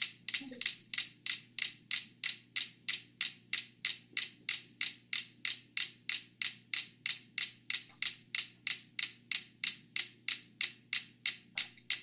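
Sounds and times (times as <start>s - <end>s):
metronomes ticking in unison: 0.0s - 12.0s.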